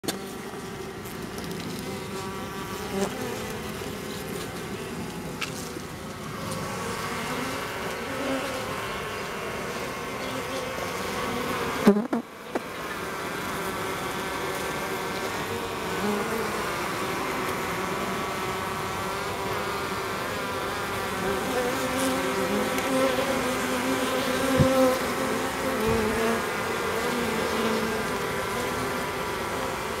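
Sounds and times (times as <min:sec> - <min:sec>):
honeybees buzzing: 0:00.1 - 0:30.0.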